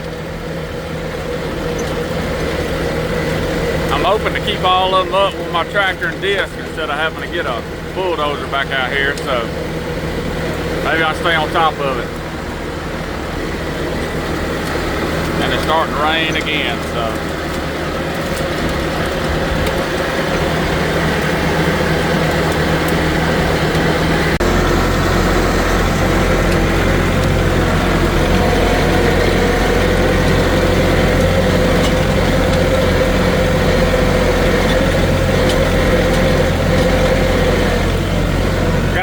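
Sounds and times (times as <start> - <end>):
tractor diesel engine hum: 0.0 - 39.0.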